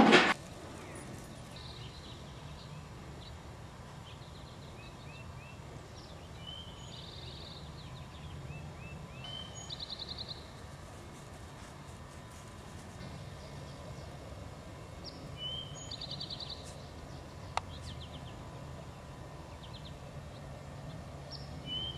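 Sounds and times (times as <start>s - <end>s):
small birds chirping: 0.4s - 21.9s.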